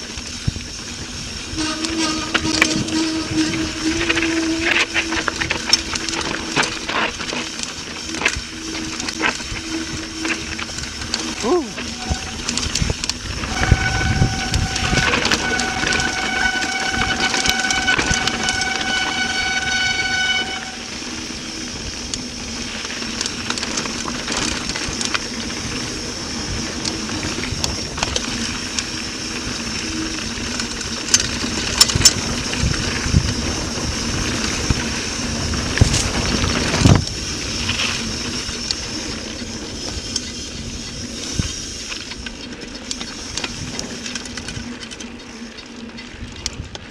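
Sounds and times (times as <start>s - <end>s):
bicycle brakes squealing: 0.0s - 46.3s
mountain bike rattling over trail: 0.0s - 46.9s.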